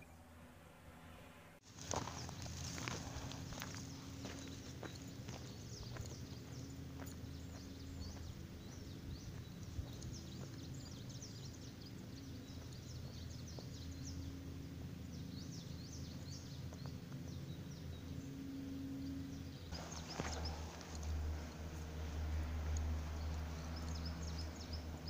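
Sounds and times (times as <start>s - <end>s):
low steady hum: 0.0s - 25.0s
small birds chirping: 1.7s - 25.0s.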